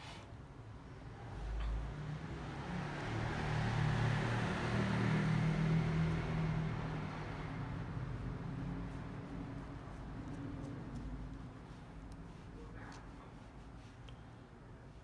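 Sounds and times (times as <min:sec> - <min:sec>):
passing vehicle engine hum: 0:00.6 - 0:14.4.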